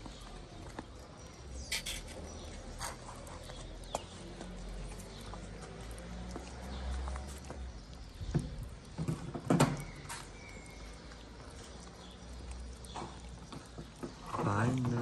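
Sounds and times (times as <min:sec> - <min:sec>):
cats chewing and lapping: 0:00.0 - 0:15.0.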